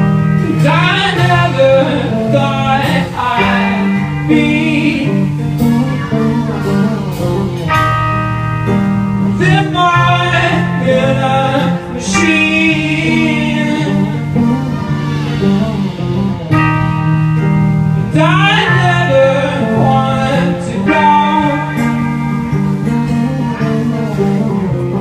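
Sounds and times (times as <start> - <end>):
bass line: 0.0 - 25.0
electric guitar: 0.0 - 25.0.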